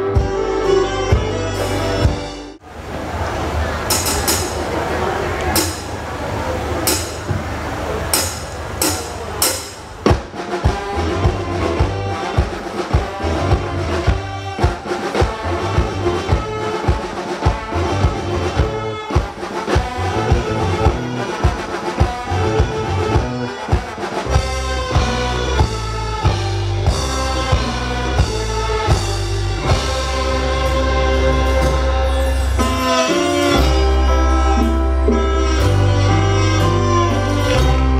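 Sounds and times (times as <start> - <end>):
brass-like melody: 0.0 - 2.6, 3.9 - 37.9
drum kit beat: 0.0 - 2.6, 3.9 - 4.6, 5.6 - 6.0, 6.8 - 37.9
heavy bass line: 0.0 - 12.6, 13.2 - 14.6, 15.2 - 16.8, 17.7 - 19.1, 19.9 - 21.5, 22.2 - 23.6, 24.2 - 37.9.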